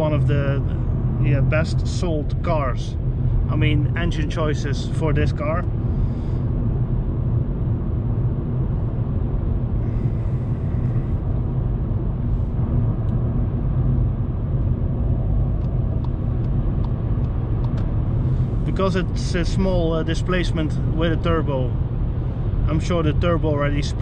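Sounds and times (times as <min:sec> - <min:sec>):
car engine droning: 0:00.0 - 0:24.0
road and tyre noise: 0:00.0 - 0:24.0.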